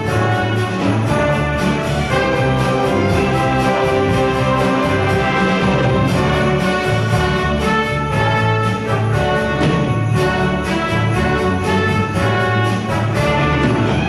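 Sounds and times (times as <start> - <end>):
orchestra playing christmas piece: 0.0 - 14.0
sleigh bells: 0.0 - 14.0
trumpets and trombones: 0.0 - 14.0.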